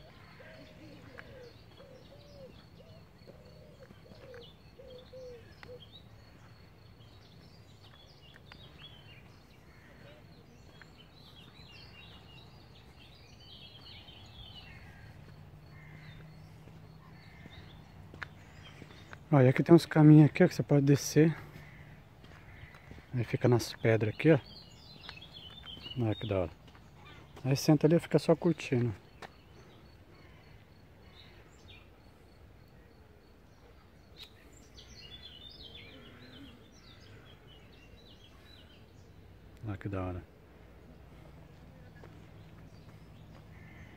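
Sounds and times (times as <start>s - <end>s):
bird chirping: 0.0s - 43.9s
low outdoor background noise: 0.0s - 43.9s.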